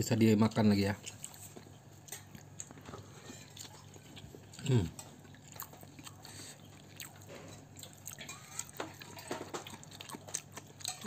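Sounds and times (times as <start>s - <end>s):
chewing with wet mouth smacks: 1.0s - 11.0s.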